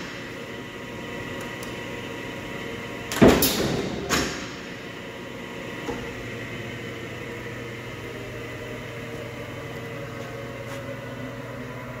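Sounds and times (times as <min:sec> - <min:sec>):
machine motor hum: 0:00.0 - 0:12.0.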